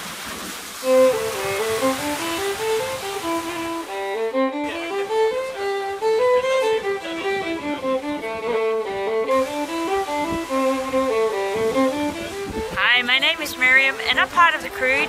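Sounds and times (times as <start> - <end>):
solo fiddle playing fast: 0.8 - 15.0.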